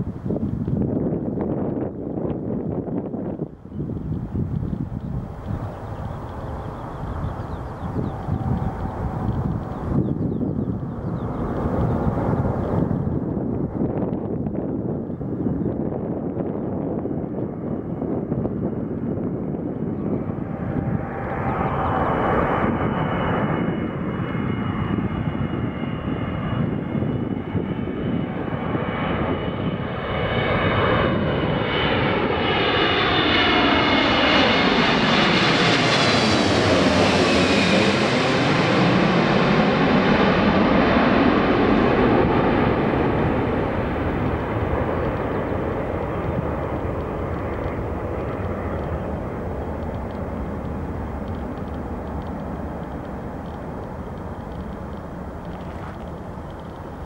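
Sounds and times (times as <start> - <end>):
jet airliner roar overhead: 0.0 - 57.0.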